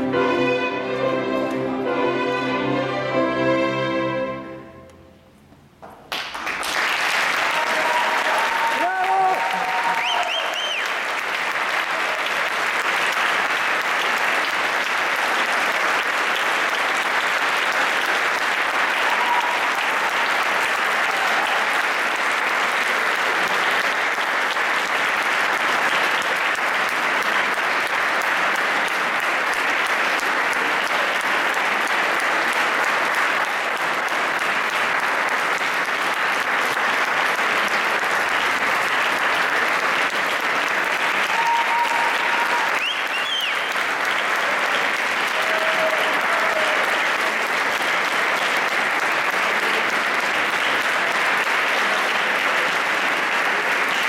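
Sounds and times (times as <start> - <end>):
audience applauding: 6.1 - 54.0.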